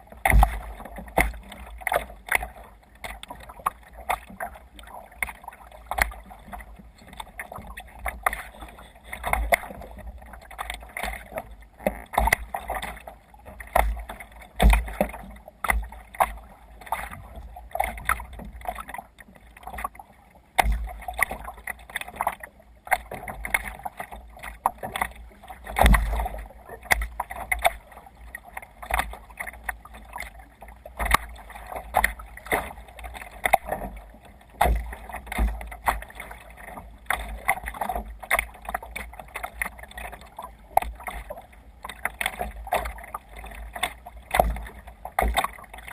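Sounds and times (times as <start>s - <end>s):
water splashing against kayak: 0.0s - 45.9s.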